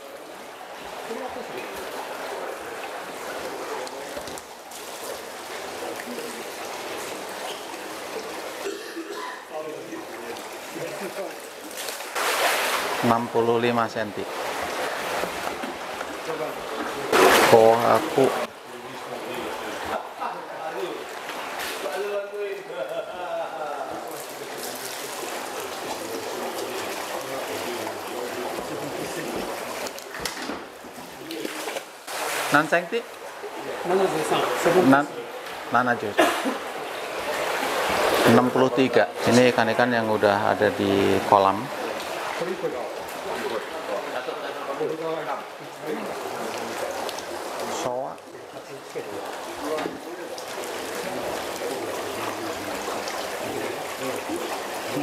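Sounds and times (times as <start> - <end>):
water sloshing and trickling: 0.0 - 55.0.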